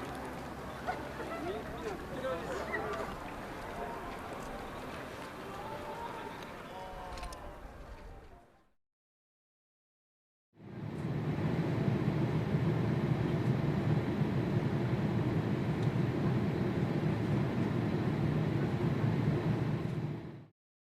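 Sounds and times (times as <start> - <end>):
jet engines rumbling: 0.0 - 8.0, 10.6 - 20.4.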